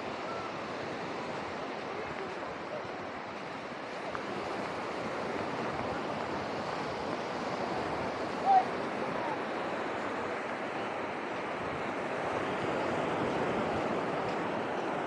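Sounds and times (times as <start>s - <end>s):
waves breaking on sandy beach: 0.0s - 15.0s.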